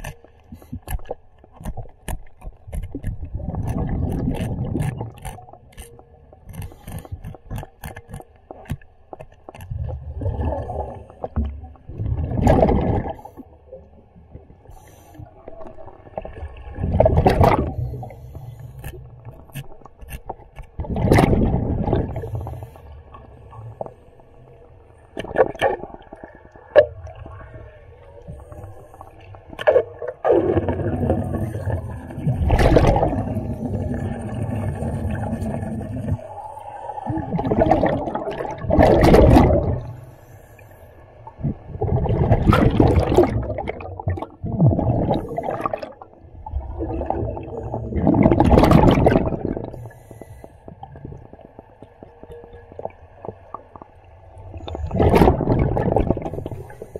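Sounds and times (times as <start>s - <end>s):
underwater bubbling and hissing: 0.0s - 56.9s.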